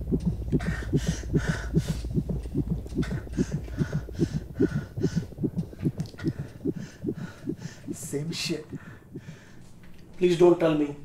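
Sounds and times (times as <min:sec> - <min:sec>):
heartbeat-like low pulses: 0:00.0 - 0:09.4
low hum: 0:00.0 - 0:09.5
breathy hiss: 0:00.4 - 0:09.7.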